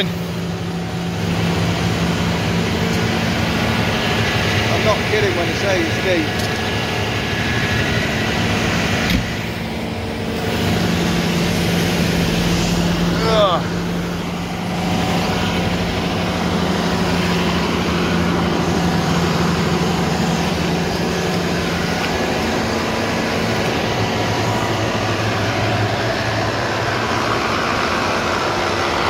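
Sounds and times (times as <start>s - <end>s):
engine running under load: 0.0s - 29.0s
water pump rushing noise: 0.0s - 29.0s.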